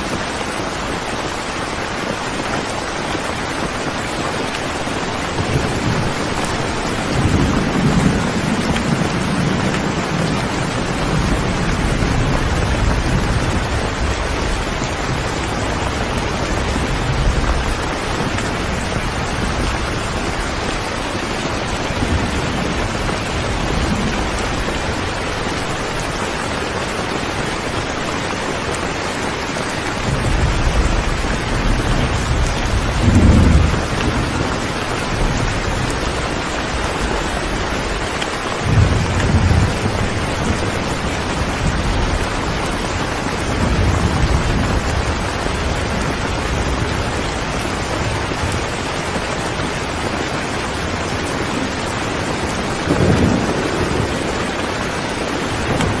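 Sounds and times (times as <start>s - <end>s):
steady rain falling: 0.0s - 56.0s
thunder rumbling: 2.9s - 56.0s.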